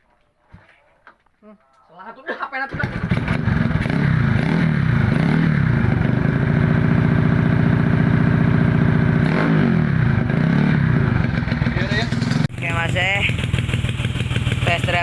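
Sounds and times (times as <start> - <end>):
motorcycle engine revving: 2.7 - 15.0.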